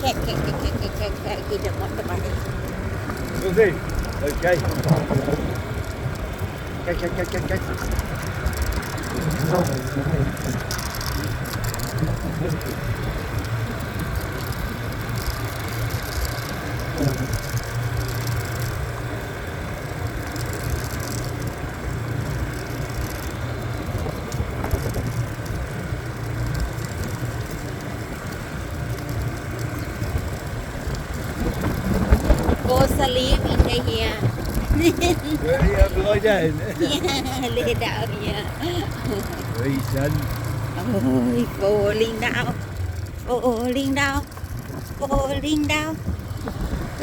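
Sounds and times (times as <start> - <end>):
motorbike engine running: 0.0 - 47.0
tyre and wind noise: 0.0 - 47.0.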